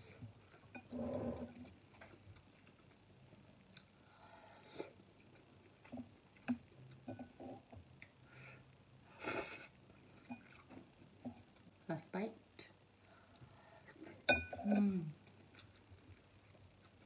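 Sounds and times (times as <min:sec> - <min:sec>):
soft chewing: 0:00.0 - 0:11.8, 0:13.1 - 0:17.0.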